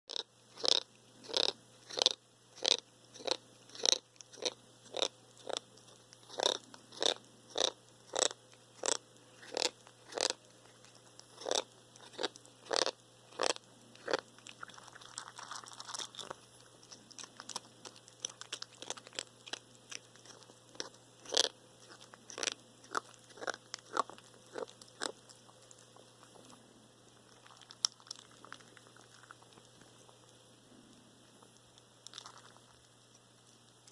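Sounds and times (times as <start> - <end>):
cat chewing food: 0.1 - 33.9.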